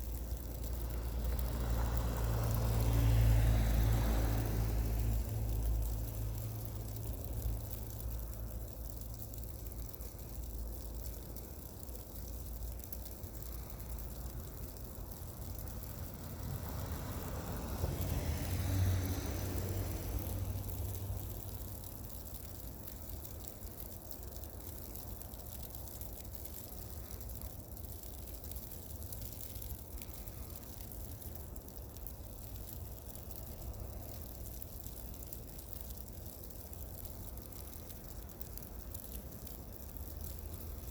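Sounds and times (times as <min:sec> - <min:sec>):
steady low rumble: 0:00.0 - 0:40.9
tyres hissing on slushy road: 0:00.0 - 0:40.9.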